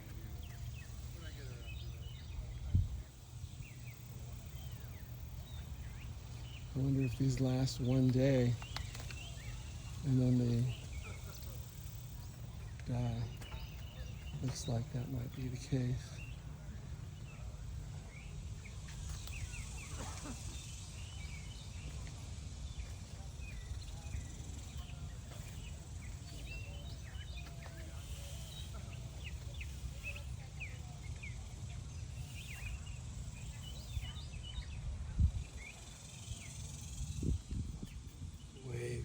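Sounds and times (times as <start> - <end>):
birds chirping: 0.0 - 39.0
low outdoor rumble: 0.0 - 39.0.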